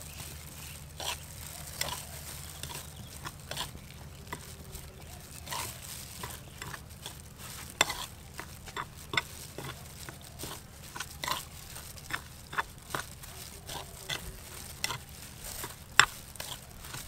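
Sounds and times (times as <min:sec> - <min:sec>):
metal spoon scraping spice mix: 0:00.1 - 0:17.0.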